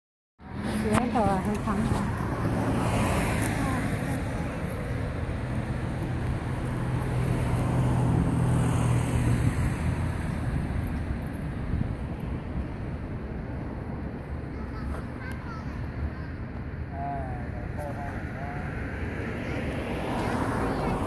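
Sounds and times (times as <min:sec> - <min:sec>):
traffic noise: 0:00.4 - 0:21.0
vehicle engine humming: 0:00.4 - 0:21.0.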